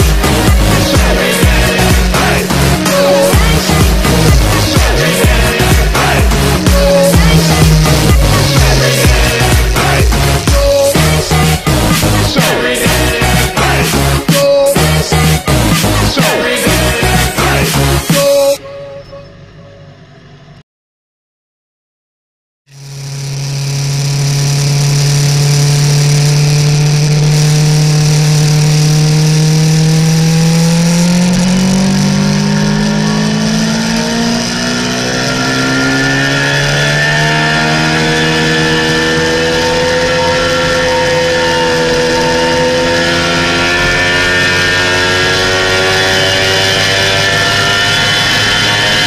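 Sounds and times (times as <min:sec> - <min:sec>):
motorcycle engine revving: 0:00.0 - 0:20.6, 0:22.7 - 0:49.0.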